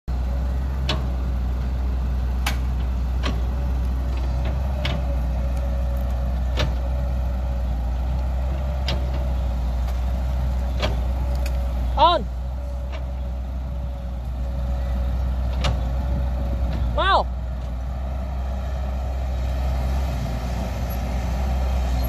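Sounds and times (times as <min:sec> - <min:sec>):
excavator engine running: 0:00.1 - 0:22.0.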